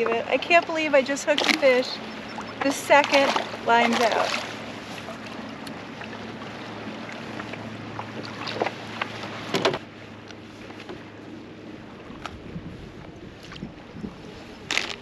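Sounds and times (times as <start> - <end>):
light wind: 0.0 - 15.0.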